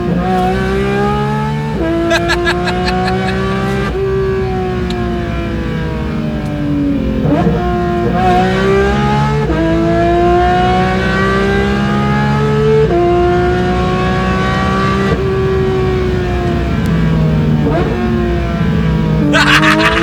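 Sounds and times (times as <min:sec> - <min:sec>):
car engine accelerating through gears: 0:00.0 - 0:19.7.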